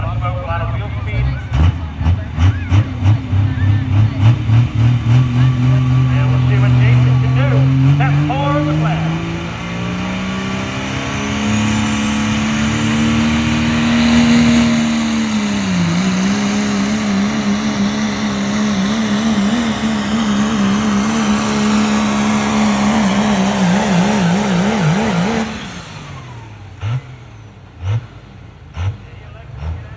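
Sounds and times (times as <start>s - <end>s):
truck engine at high revs: 0.0s - 29.9s.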